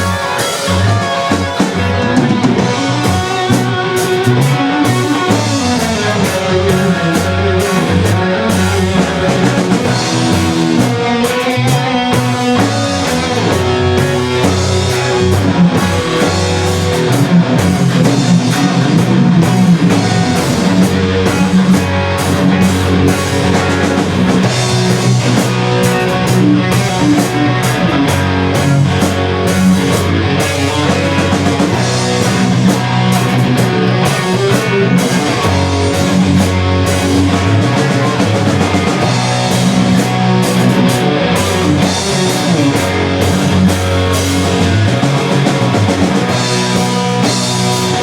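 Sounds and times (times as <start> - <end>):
bass: 0.0 - 48.0
drum kit: 0.0 - 48.0
electric guitar: 0.0 - 48.0.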